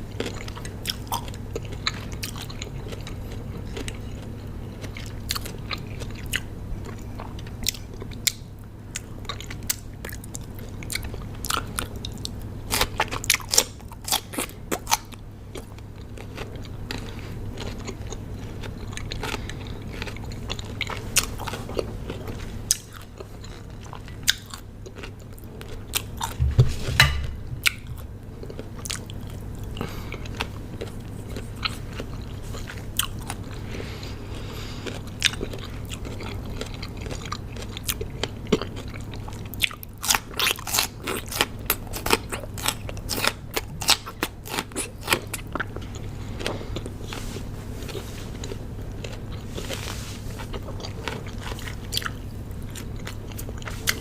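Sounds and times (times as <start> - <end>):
chewing crunchy cucumber: 0.0 - 54.0
steady low hum: 0.0 - 54.0.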